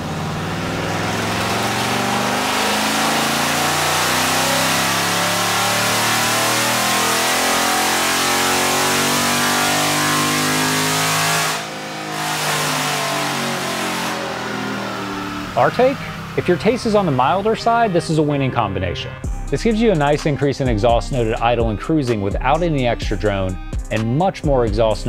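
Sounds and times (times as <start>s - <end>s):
car engine revving at full throttle: 0.0s - 22.9s.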